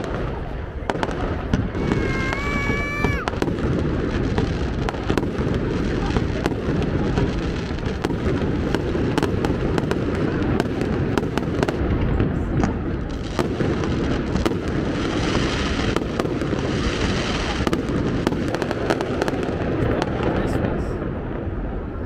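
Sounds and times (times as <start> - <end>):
fireworks bursts rumbling: 0.0 - 22.0
fireworks crackles and pops: 0.0 - 22.0.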